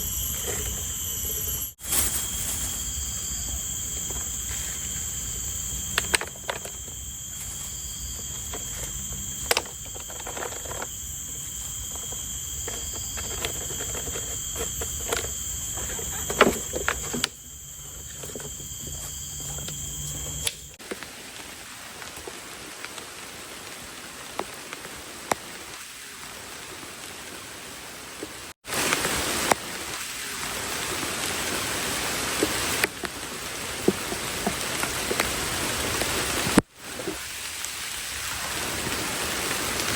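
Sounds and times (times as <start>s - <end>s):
insects chirring: 0.0s - 39.9s
rain hiss: 0.0s - 39.9s.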